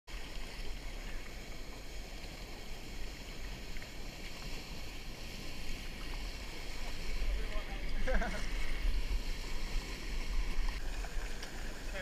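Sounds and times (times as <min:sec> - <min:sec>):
whitewater rushing with low rumble: 0:00.1 - 0:12.0.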